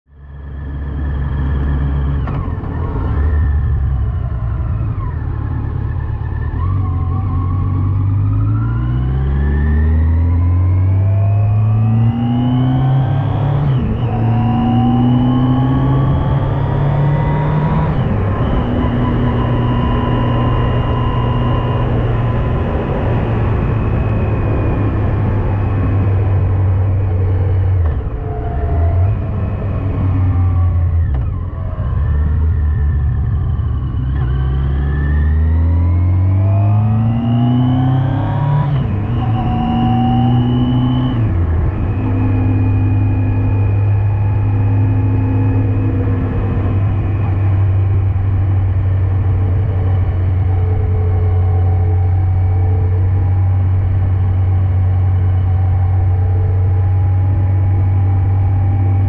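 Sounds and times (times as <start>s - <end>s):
motorcycle engine accelerating: 0.1s - 59.0s
wind and road noise: 0.1s - 59.0s.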